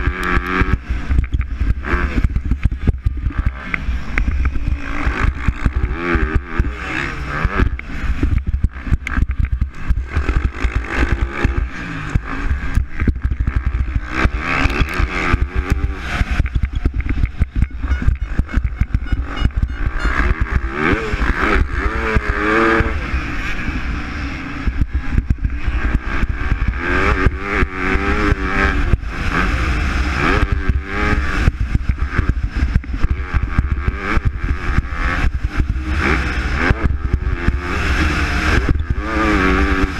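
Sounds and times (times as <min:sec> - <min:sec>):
motocross bikes racing: 0:00.0 - 0:39.9.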